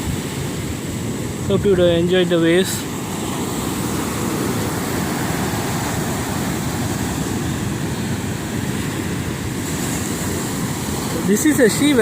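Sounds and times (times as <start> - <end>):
sea surf breaking on beach: 0.0 - 12.0.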